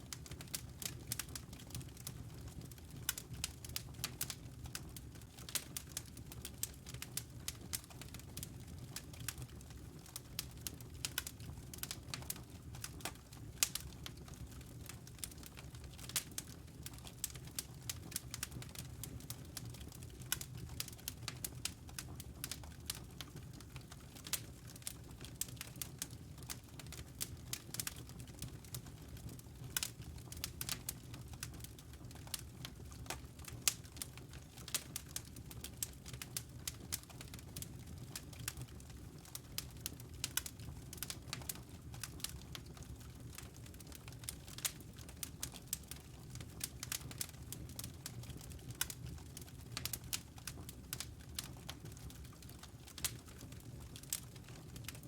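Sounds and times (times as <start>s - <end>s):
low rumble of flames: 0.0s - 55.0s
wood fire crackles and pops: 0.0s - 55.0s.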